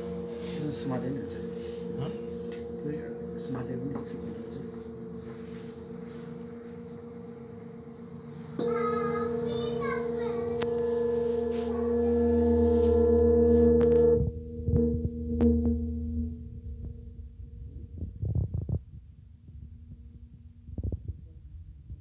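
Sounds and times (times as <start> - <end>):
singing bowl ringing: 0.0 - 18.0
singing bowl struck: 0.0 - 18.0.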